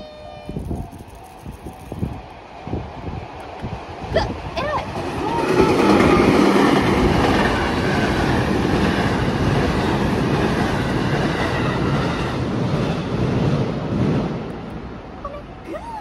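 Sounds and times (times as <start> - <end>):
train passing close by: 0.0 - 16.0.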